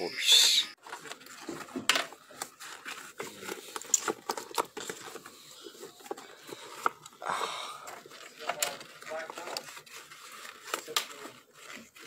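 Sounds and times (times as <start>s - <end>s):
plastic figures clicking and tapping: 0.9s - 7.2s, 7.8s - 12.0s.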